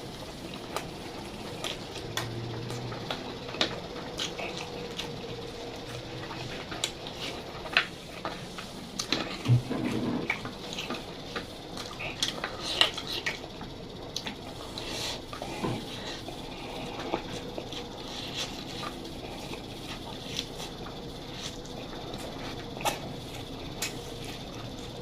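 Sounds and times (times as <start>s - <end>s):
chewing and mouth clicks: 0.3s - 25.0s.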